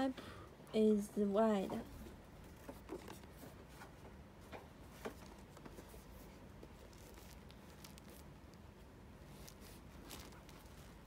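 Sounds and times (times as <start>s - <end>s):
faint rustling: 1.6s - 11.0s.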